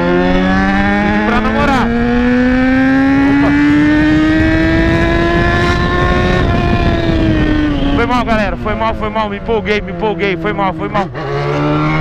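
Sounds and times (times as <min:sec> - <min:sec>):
motorcycle engine accelerating: 0:00.0 - 0:12.0
wind rushing: 0:00.2 - 0:10.8.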